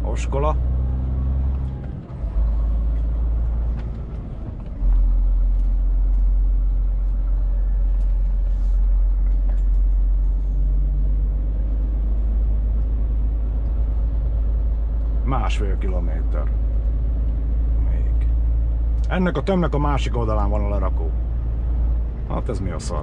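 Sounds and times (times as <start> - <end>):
truck diesel engine rumbling: 0.0 - 23.0.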